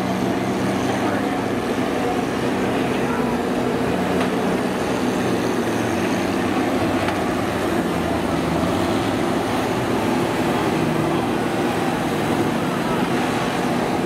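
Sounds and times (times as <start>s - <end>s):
diesel engines droning: 0.0s - 14.0s.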